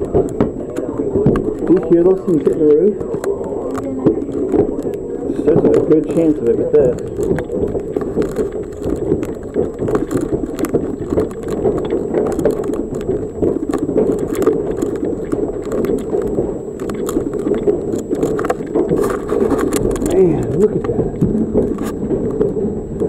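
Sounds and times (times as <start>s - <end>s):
hailstones hitting a roof: 0.0s - 23.0s.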